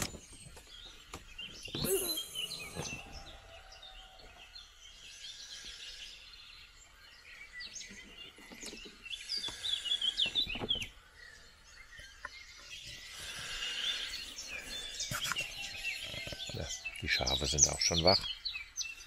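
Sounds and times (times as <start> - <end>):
birds chirping and trilling: 0.0 - 19.0
faint outdoor background noise: 0.0 - 19.0.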